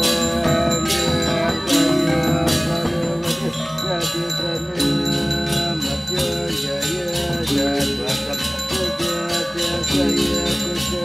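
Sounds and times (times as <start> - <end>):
pitch-bending melody: 0.0 - 10.9
bell-like metal percussion: 0.0 - 11.0.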